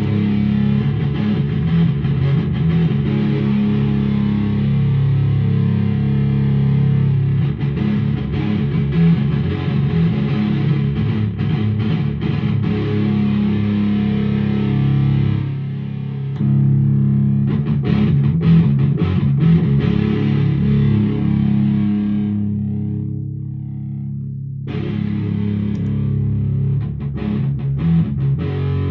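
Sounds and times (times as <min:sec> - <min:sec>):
fuzz-distorted electric guitar: 0:00.0 - 0:28.9.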